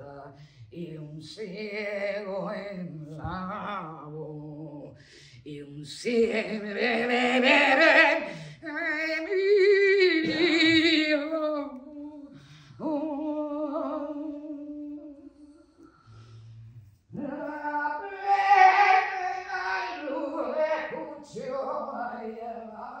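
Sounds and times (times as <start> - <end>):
woman singing wordless notes: 0.0 - 15.8, 17.1 - 23.0.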